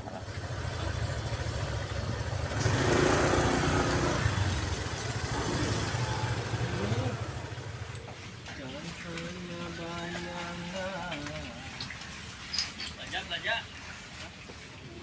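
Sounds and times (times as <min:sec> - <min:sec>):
engine pulsing rumble: 0:00.0 - 0:12.4.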